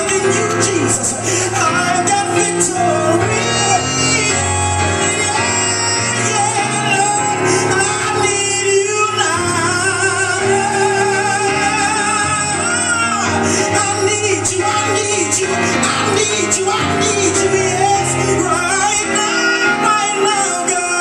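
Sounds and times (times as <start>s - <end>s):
band accompaniment: 0.0s - 21.0s
person singing with vibrato: 0.0s - 21.0s.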